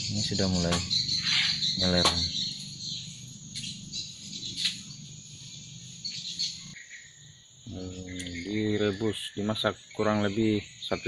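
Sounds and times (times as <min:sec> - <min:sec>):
bird chirps: 0:00.0 - 0:11.0
insects trilling: 0:00.0 - 0:11.0.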